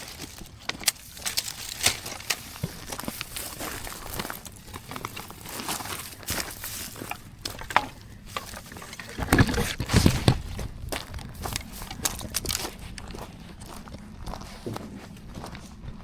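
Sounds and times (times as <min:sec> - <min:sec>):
rustling and clicking: 0:00.0 - 0:13.2.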